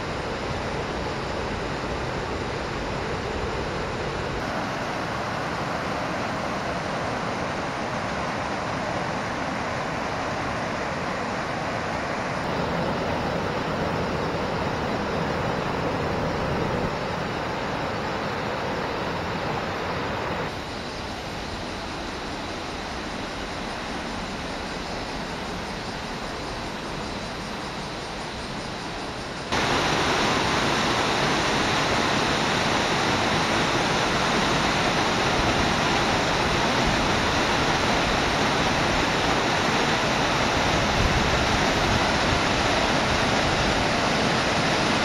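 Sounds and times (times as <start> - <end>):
waterfall rushing over rocks: 0.0 - 45.0.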